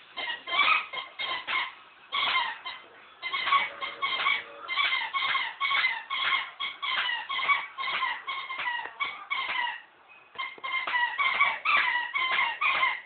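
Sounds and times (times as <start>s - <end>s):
dog toy squeaking: 0.2s - 13.0s.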